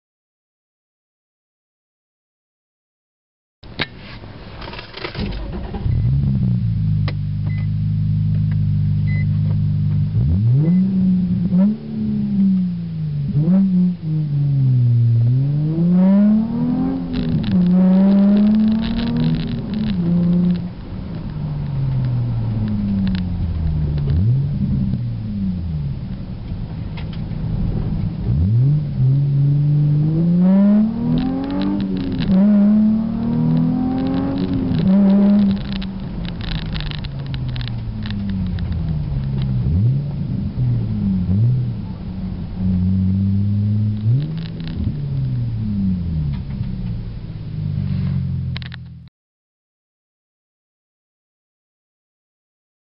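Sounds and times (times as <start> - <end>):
car engine accelerating: 4.4 - 49.1.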